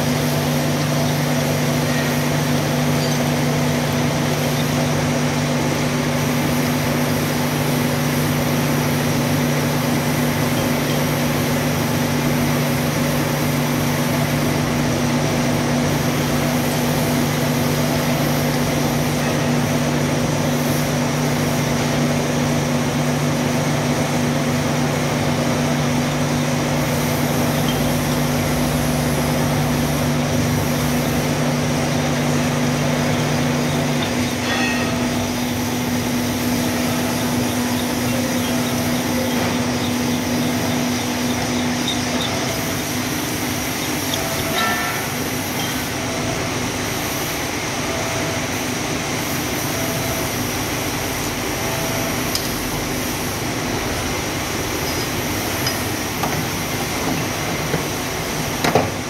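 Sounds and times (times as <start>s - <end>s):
drilling hiss: 0.0s - 58.6s
metal lathe humming: 0.0s - 59.0s.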